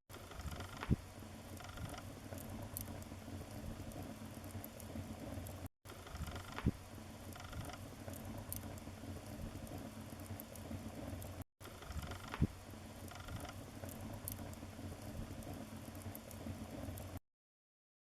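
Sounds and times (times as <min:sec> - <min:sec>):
wood fire burning: 0:00.1 - 0:17.2
fire crackles and pop: 0:00.2 - 0:17.2.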